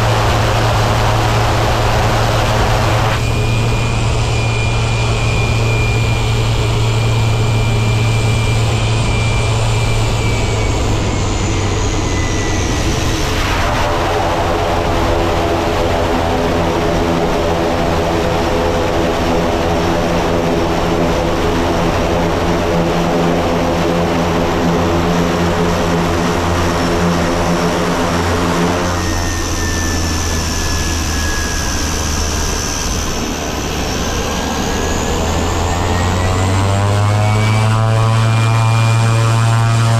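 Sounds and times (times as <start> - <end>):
turbine whine: 0.0 - 39.9
turboprop engine running: 0.0 - 39.9.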